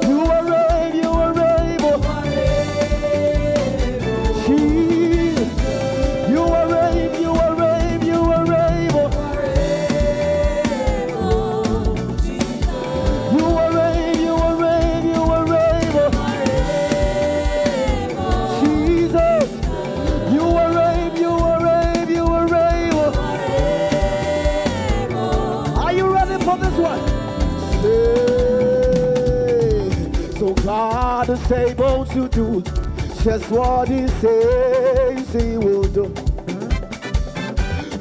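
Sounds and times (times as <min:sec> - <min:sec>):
gospel band playing: 0:00.0 - 0:38.0
person singing: 0:00.0 - 0:38.0.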